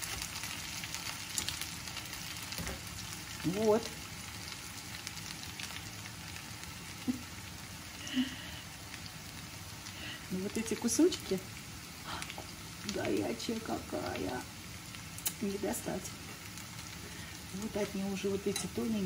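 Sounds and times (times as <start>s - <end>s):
potatoes sizzling in a pan: 0.0s - 19.0s.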